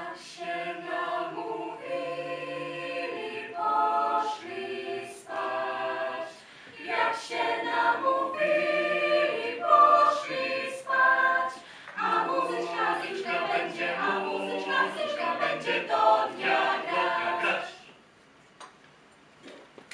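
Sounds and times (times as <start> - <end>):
choir singing unaccompanied: 0.0 - 17.9.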